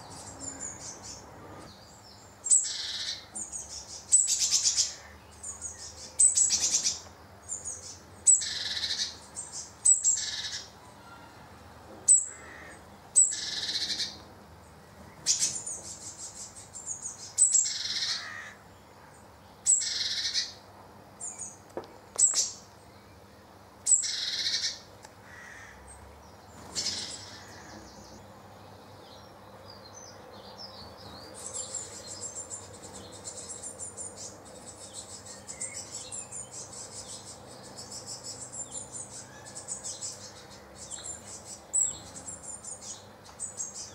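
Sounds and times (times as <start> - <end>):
nestlings begging calls: 0.0 - 11.2, 12.1 - 14.2, 15.2 - 18.6, 19.6 - 20.6, 23.8 - 26.0, 26.6 - 43.9.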